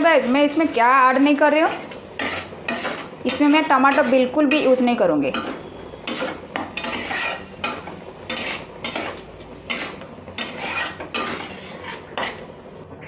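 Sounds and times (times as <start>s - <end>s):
wooden spatula scraping a pan: 0.0s - 12.8s.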